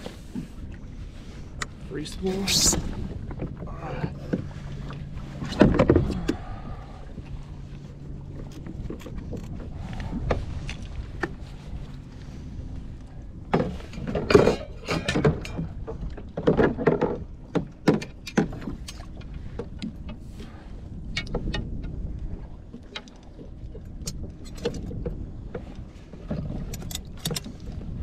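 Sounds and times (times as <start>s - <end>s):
low rumble of water and wind: 0.0s - 28.0s
knocks and clatter on kayak: 2.5s - 28.0s.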